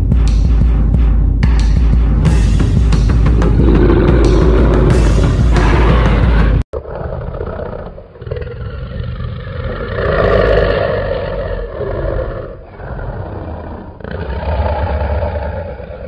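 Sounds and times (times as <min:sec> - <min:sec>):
deep monster roars: 0:03.0 - 0:16.0.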